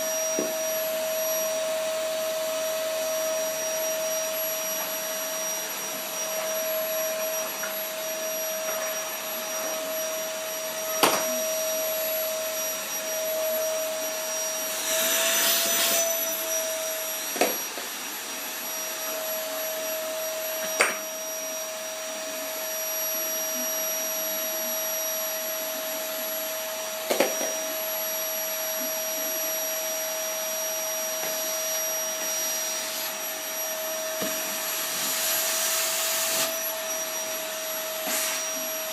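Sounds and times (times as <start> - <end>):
vacuum cleaner whining: 0.0 - 38.9.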